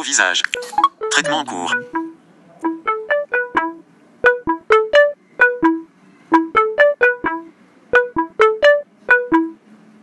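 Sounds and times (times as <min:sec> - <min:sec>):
looping tune of short pitched notes: 0:00.6 - 0:09.6.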